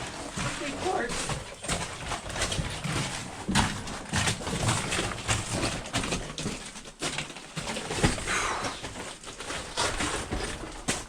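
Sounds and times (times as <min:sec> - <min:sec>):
footsteps on rough floor: 0:00.0 - 0:11.0.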